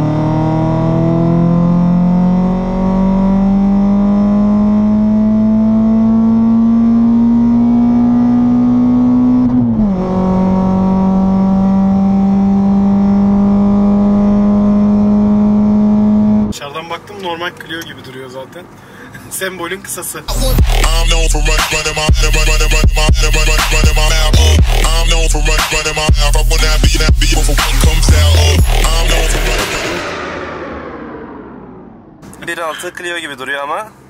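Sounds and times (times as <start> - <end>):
car engine accelerating: 0.0 - 16.6, 20.3 - 33.0.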